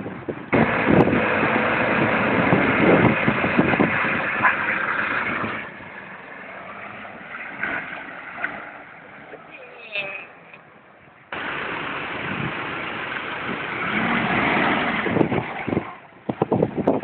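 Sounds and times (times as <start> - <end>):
truck engine running rough: 0.0 - 9.3, 11.3 - 17.0.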